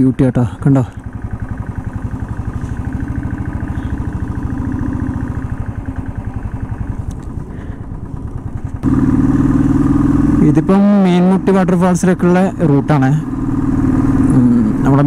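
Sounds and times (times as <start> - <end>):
small engine throbbing: 0.0 - 15.0.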